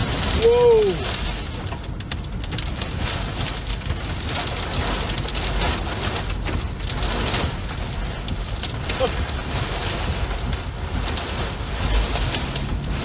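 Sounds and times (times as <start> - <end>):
low rumble of wind and road: 0.0 - 13.0
rain pelting vehicle windshield: 0.0 - 13.0.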